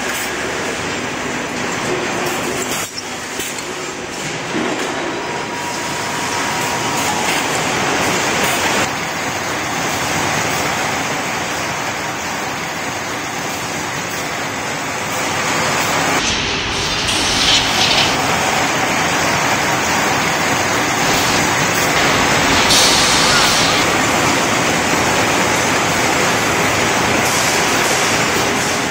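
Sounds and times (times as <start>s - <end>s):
factory machinery running: 0.0s - 28.9s.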